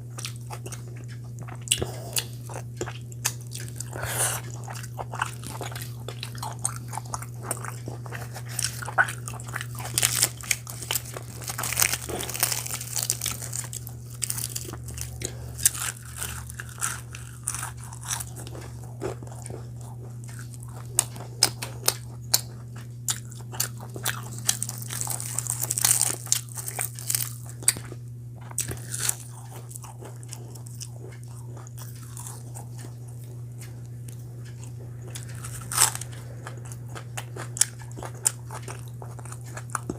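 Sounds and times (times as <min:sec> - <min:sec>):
person chewing crunchy food: 0:00.0 - 0:39.9
steady low hum: 0:00.0 - 0:39.9.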